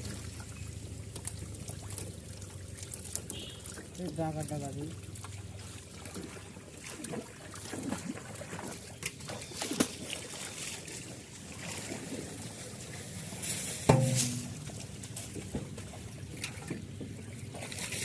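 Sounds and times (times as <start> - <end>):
water sloshing and trickling: 0.0 - 18.0
water splashes: 0.0 - 18.0.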